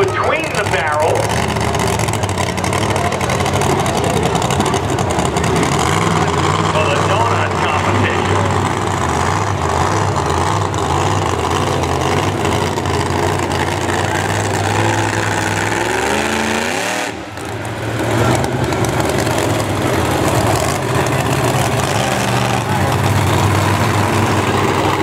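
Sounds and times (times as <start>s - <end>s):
engine revving: 0.0s - 25.0s
truck engines rumbling: 0.0s - 25.0s.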